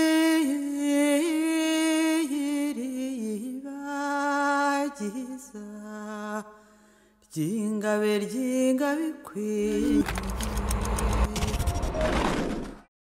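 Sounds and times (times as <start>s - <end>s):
person singing wordless long notes: 0.0s - 11.8s.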